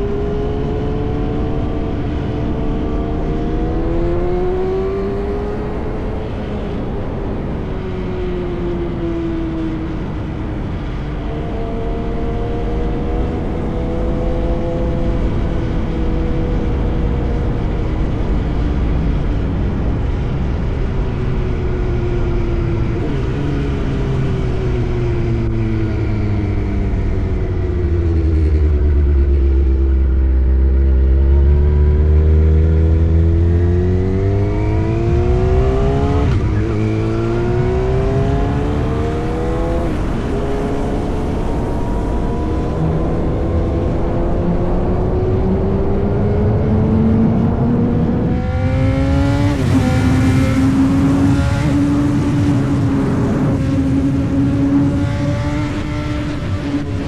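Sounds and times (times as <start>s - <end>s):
motorcycle engine revving: 0.0s - 19.4s, 22.6s - 57.0s.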